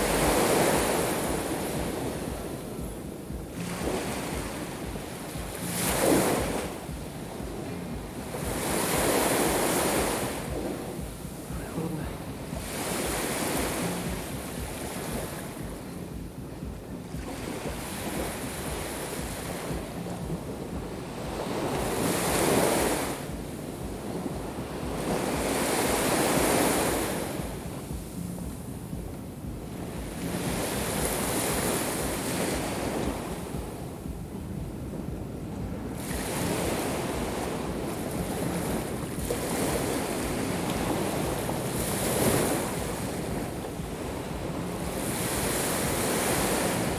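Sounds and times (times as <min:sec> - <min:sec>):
surf breaking on shore: 0:00.0 - 0:15.9, 0:16.7 - 0:46.9
wind buffeting microphone: 0:00.0 - 0:46.9.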